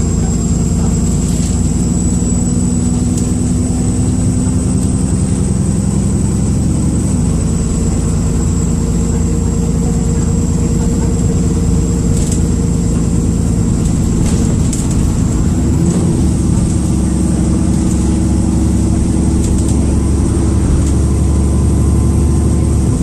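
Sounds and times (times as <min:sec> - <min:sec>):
bus diesel engine rumble: 0:00.0 - 0:23.0.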